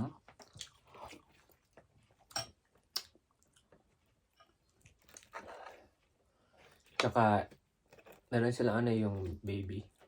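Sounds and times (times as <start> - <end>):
soft chewing: 0.0 - 10.0.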